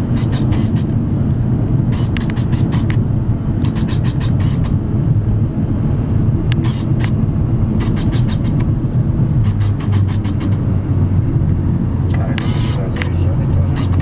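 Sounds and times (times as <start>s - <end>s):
engine and tyres rumbling: 0.0s - 14.0s.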